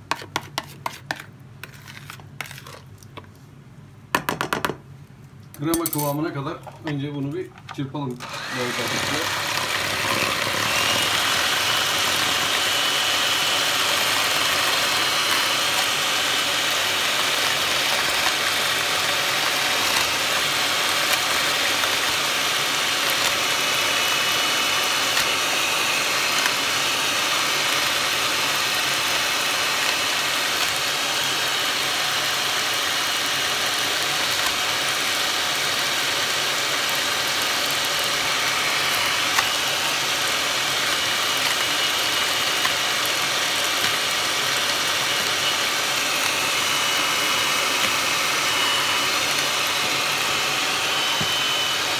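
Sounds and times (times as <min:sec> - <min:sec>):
electric hand mixer whisking batter: 0:08.2 - 0:51.9.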